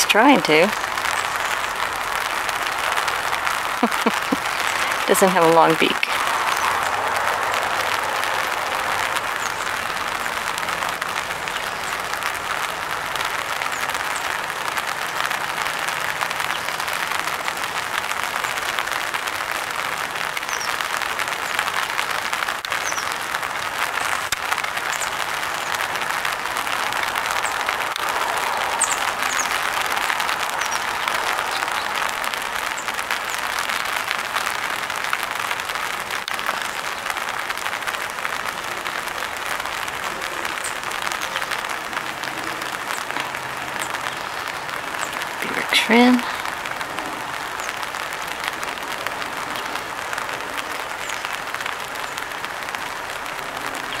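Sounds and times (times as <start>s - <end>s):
rain pattering on umbrella: 0.0s - 54.0s.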